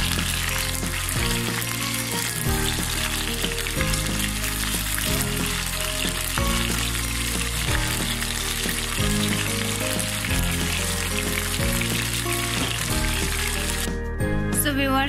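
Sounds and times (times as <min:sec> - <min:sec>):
fish deep-frying in oil: 0:00.0 - 0:14.1
background music with low notes: 0:00.0 - 0:15.0.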